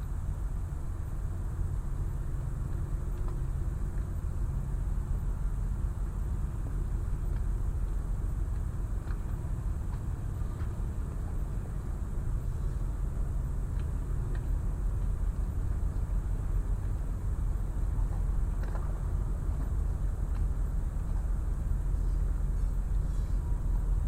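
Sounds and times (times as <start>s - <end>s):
low rumble of engines and traffic: 0.0s - 24.0s.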